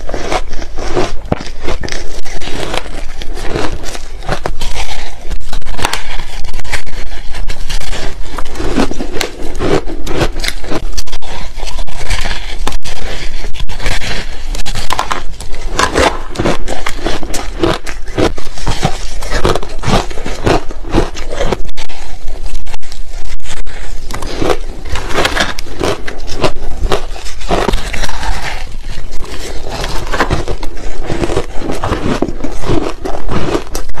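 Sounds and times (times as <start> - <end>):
ice being chewed: 0.0 - 34.0.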